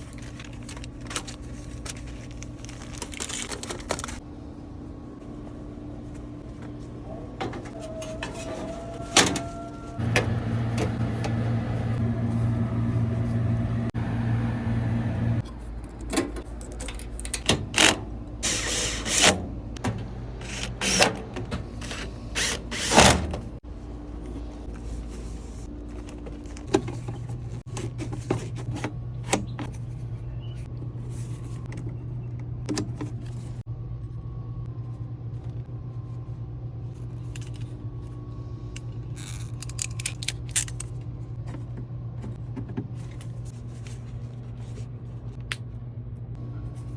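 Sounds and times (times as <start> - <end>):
air conditioner humming: 0.0 - 46.9.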